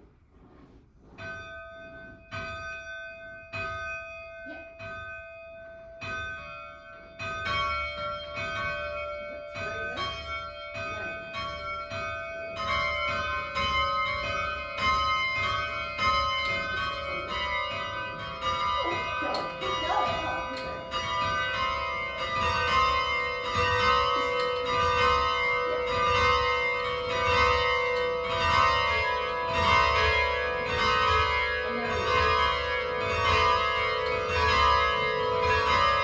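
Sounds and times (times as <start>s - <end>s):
tower bells ringing: 1.0s - 36.0s.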